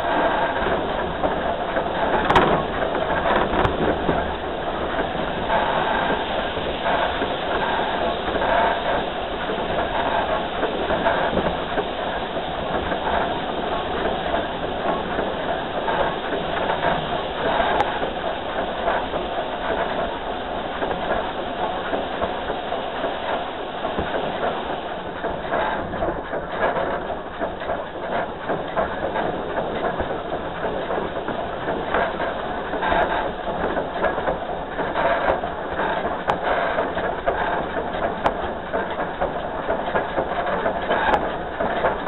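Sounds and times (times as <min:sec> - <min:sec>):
steam locomotive running: 0:00.0 - 0:42.0
wheels clattering over rails: 0:00.0 - 0:42.0.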